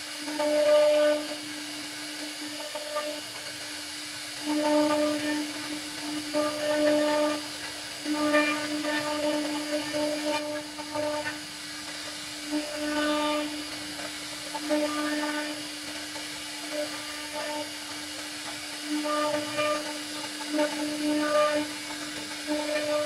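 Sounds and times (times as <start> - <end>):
hiss of wood cutting: 0.0 - 23.0
router spindle whining: 0.1 - 23.0.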